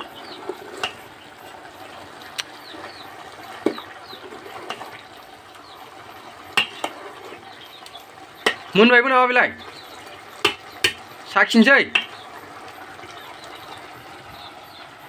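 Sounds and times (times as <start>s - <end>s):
ladle stirring in a pot: 0.0s - 11.3s, 11.9s - 14.2s
pot bubbling on a fire: 0.0s - 15.0s.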